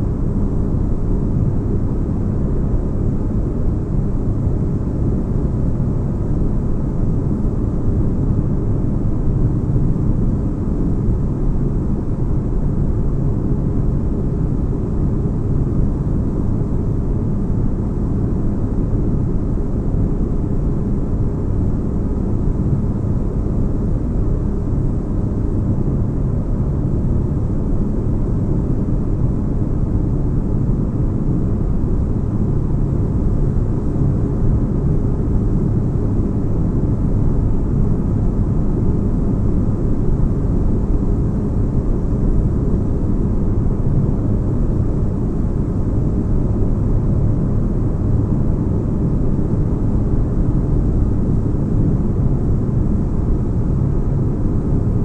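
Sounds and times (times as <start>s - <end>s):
low rumble and hum: 0.0s - 55.0s.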